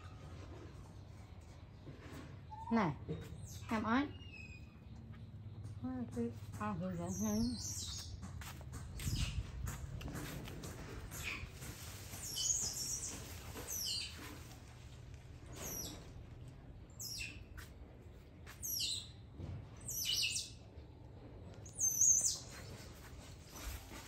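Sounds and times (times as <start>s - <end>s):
small birds chirping: 0.8s - 24.0s.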